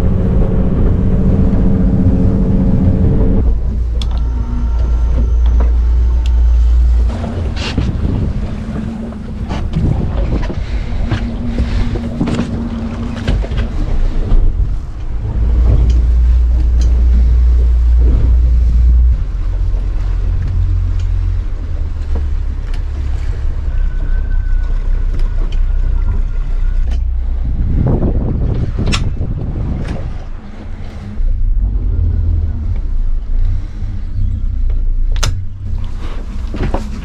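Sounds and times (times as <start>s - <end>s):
boat engine drone: 0.0s - 37.0s
water rushing past hull: 0.0s - 37.0s
wind buffeting microphone: 0.0s - 37.0s.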